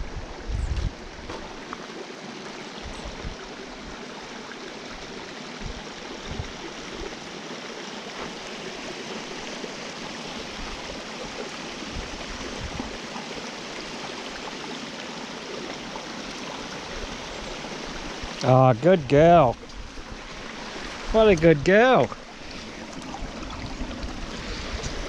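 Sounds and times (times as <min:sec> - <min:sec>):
water rushing over rocks: 0:01.2 - 0:25.0.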